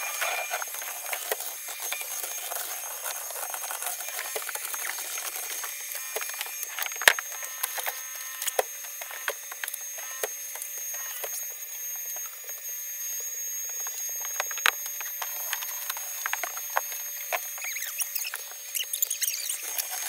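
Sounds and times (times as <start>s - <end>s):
vacuum motor whine: 0.0s - 20.0s.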